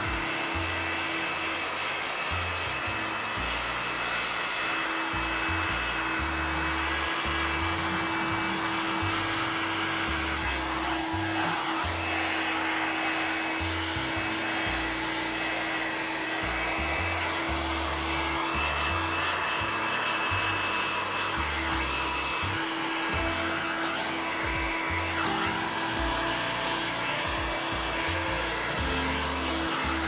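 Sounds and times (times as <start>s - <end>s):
background music: 0.0s - 30.0s
heat gun blowing: 0.0s - 30.0s.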